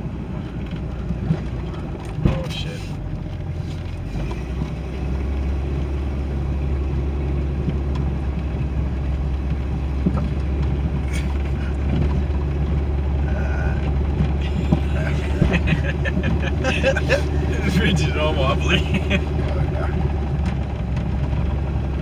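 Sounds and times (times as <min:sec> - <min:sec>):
car engine low rumble: 0:00.0 - 0:22.0.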